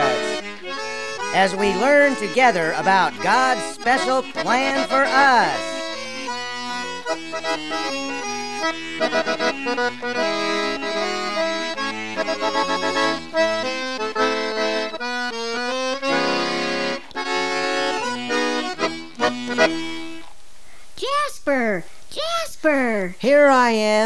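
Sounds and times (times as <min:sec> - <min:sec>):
instrumental theme music: 0:00.0 - 0:20.3.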